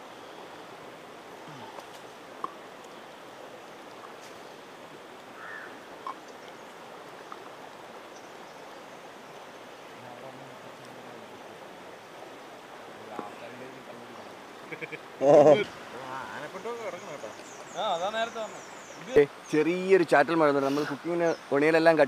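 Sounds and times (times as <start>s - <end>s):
forest stream rushing: 0.0s - 22.0s.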